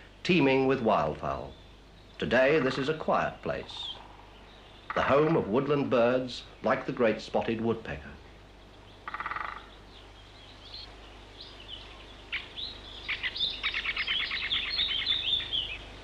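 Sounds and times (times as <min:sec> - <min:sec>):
woodpecker drumming: 0:00.0 - 0:15.8
birds chirping: 0:00.0 - 0:16.0.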